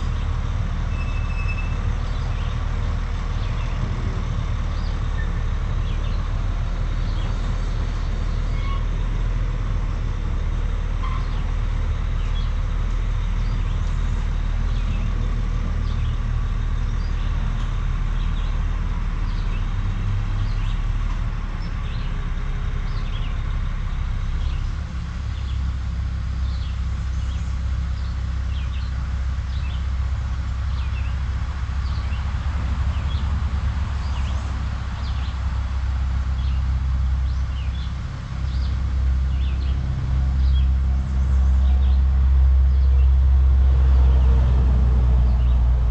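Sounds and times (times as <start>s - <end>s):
truck diesel engine rumbling: 0.0s - 45.9s.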